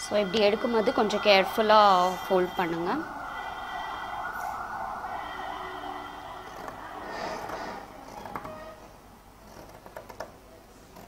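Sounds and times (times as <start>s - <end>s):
siren: 0.0s - 9.1s
background traffic noise: 0.0s - 11.0s.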